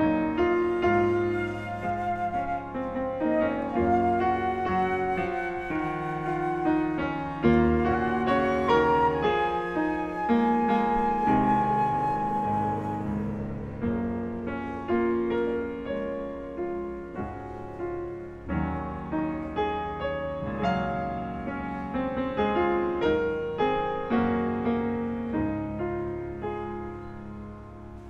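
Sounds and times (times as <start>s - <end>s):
grand piano slow melody: 0.0s - 28.0s.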